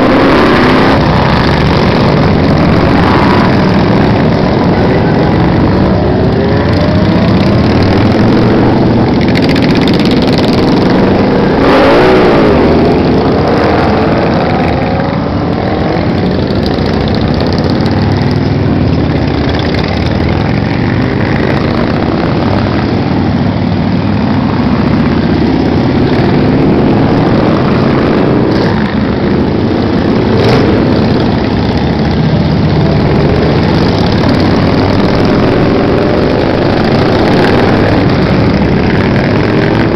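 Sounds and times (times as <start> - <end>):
motorcycle revving: 0.0 - 39.9
motorcycles riding past: 0.0 - 39.9.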